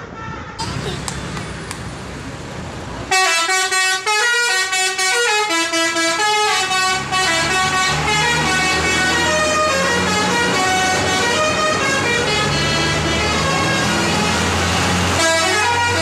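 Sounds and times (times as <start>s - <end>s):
road noise: 0.0s - 16.0s
bus engine humming: 0.6s - 16.0s.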